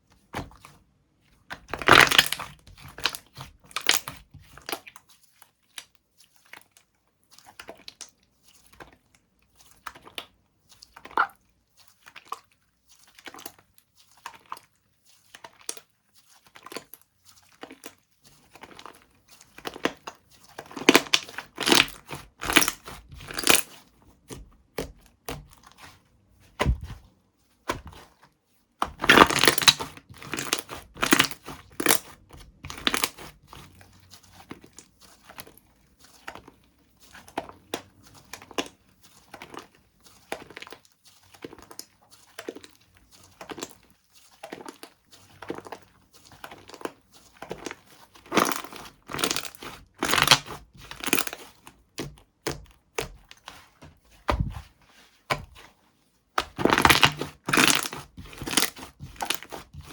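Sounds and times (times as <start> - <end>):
slime squishing: 0.0 - 59.9.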